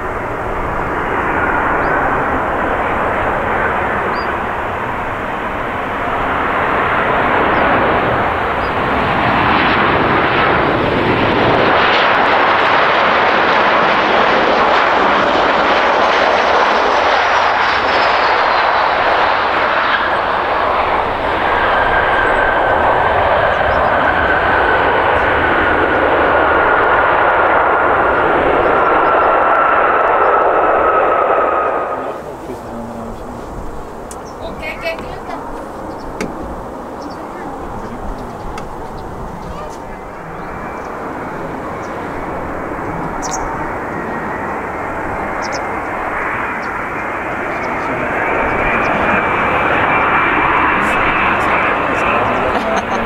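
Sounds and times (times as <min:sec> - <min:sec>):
airliner jet noise: 0:00.0 - 0:53.0
high engine whine: 0:00.0 - 0:53.0.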